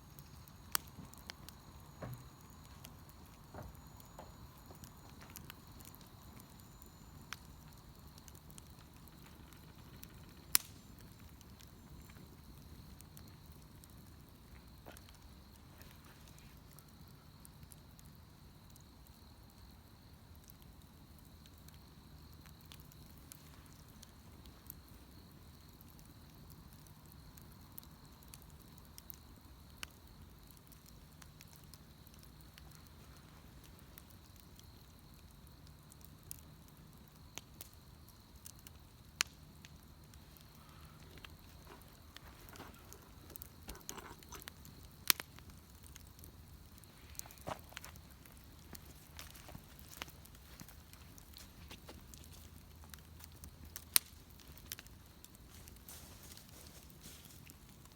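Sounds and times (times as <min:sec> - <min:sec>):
bonfire crackling and popping: 0:00.0 - 0:57.9.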